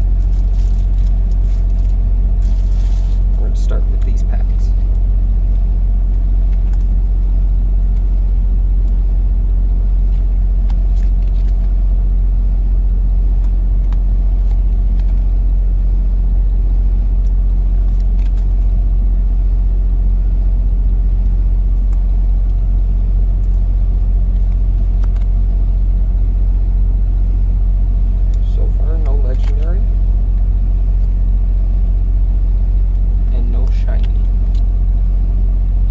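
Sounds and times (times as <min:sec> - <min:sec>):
low rumble with hum: 0:00.0 - 0:35.9.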